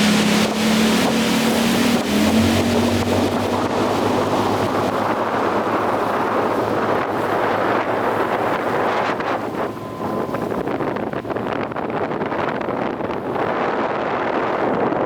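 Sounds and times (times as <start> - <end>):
boat engine hum: 0.0 - 15.0
wind buffeting microphone: 0.0 - 15.0.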